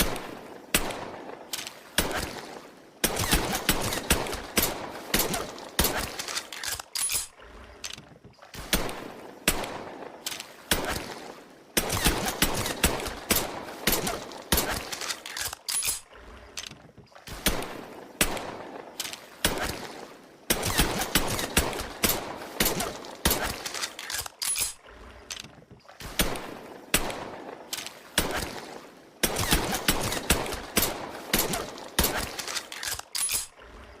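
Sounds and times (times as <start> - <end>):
pistol gunshots: 2.0 - 7.3, 8.6 - 16.0, 17.3 - 24.8, 26.0 - 33.5.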